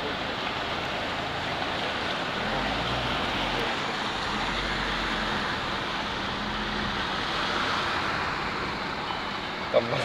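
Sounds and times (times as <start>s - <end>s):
heavy rain and rushing water: 0.0s - 10.0s
vehicle engine rumble: 0.0s - 10.0s.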